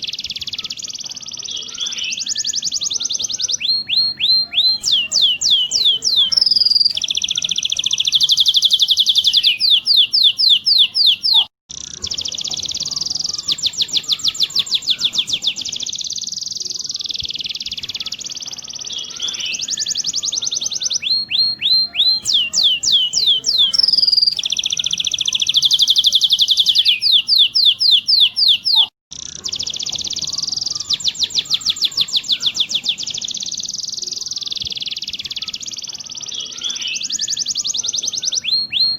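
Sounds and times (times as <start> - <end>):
canary song trills: 0.0 - 38.9.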